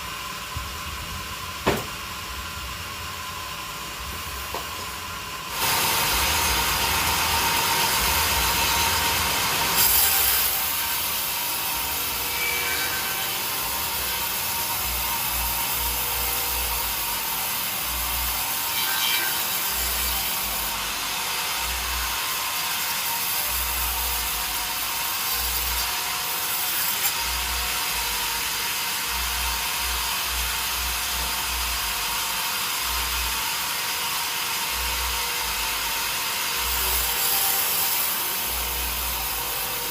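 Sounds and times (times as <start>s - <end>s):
saw cutting through wood: 3.2s - 39.9s.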